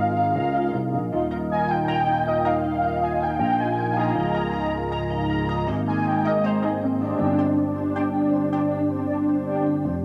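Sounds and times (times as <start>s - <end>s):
slow ambient instrumental chords: 0.0s - 10.0s.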